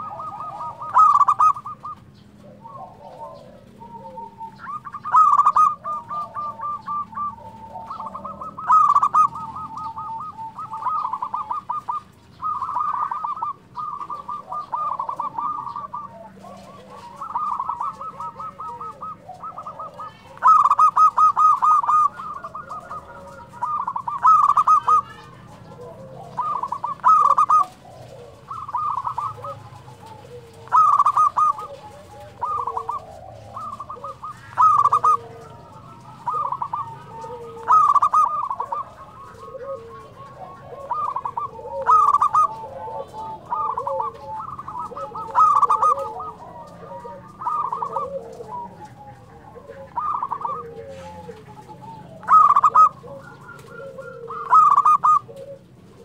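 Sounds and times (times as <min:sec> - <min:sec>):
dove cooing: 0:00.0 - 0:56.0
faint lower bird calls: 0:00.0 - 0:56.0.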